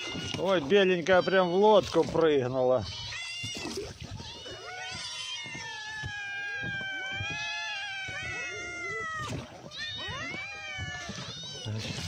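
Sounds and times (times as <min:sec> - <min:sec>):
cats meowing: 0:00.0 - 0:12.0.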